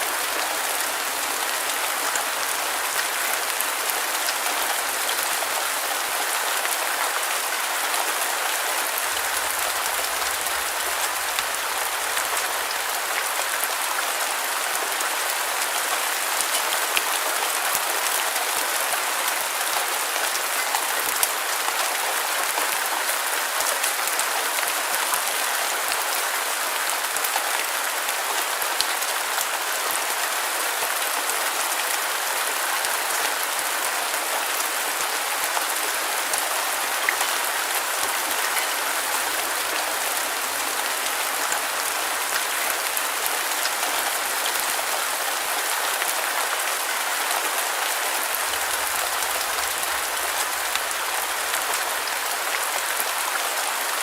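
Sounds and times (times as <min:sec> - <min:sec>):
rain on hard surface: 0:00.0 - 0:54.0.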